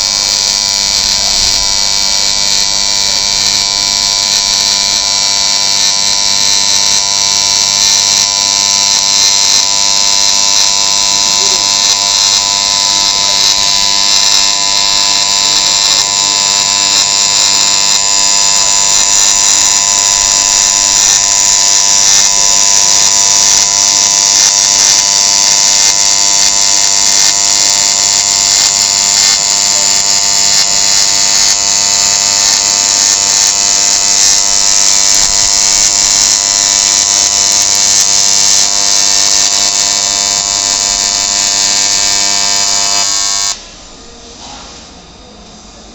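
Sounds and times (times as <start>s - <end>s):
welding arc buzzing: 0.0s - 44.3s.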